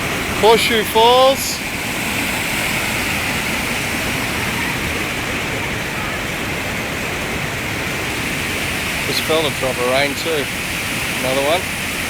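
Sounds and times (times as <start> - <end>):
water rushing down waterfall: 0.0 - 12.0.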